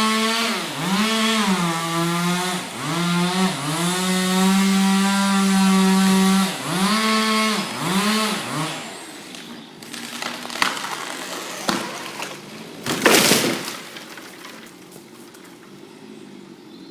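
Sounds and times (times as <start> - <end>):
chainsaw revving: 0.0 - 13.8.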